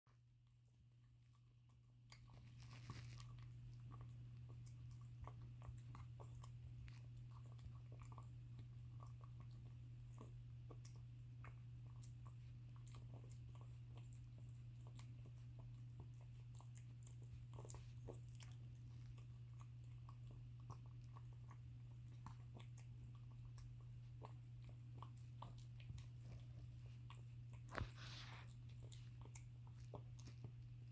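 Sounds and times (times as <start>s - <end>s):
cat chewing with crunching clicks: 0.1s - 30.9s
steady low hum: 0.1s - 30.9s.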